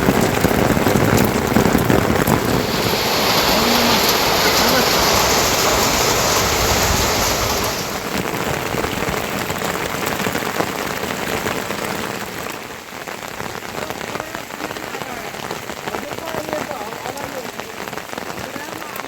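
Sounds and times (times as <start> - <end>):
rain falling: 0.0 - 19.0
raindrops ticking: 0.0 - 19.0.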